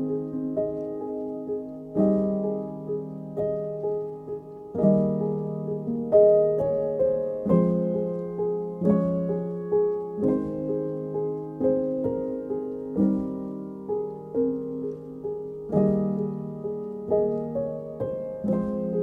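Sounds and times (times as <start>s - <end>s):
slow piano piece: 0.0s - 19.0s.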